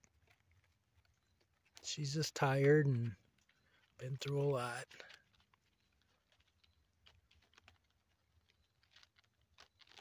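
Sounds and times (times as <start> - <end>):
faint light ticks and rustles: 0.0 - 10.0.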